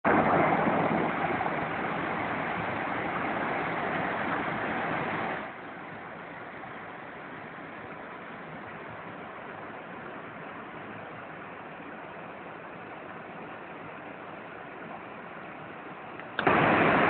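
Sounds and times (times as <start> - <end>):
white water rushing and churning: 0.0 - 17.0.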